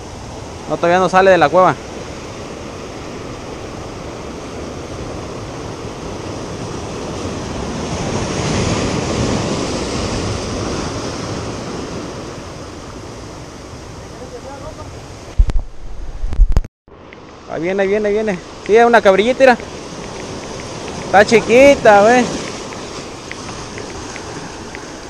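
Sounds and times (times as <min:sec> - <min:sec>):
ocean surf on rocky shore: 0:00.0 - 0:25.0.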